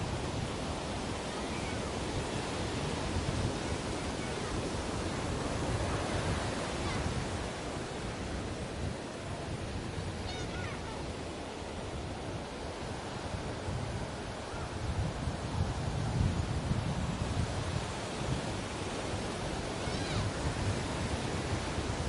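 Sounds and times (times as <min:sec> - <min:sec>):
sea waves on beach: 0:00.0 - 0:22.0.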